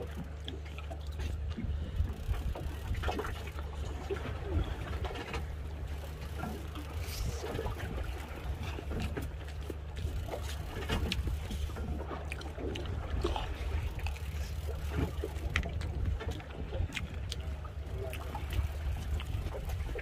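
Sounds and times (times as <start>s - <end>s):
boat engine idling: 0.0s - 20.0s
water lapping against hull: 0.0s - 20.0s.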